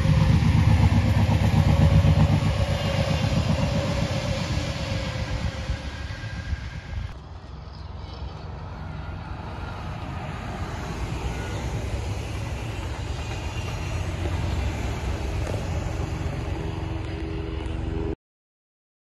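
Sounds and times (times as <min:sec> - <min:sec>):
train wheels rumbling on rails: 0:00.0 - 0:18.2.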